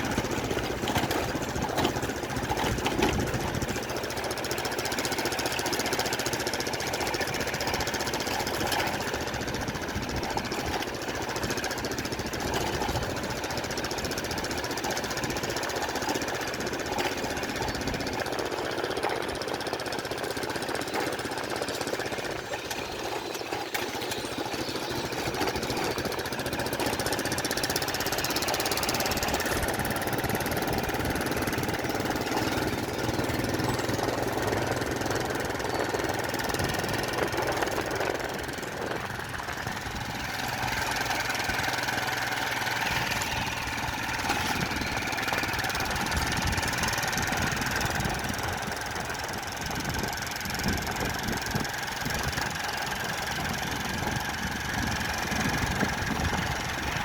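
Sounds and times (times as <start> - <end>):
motor engine running: 0.0 - 57.0.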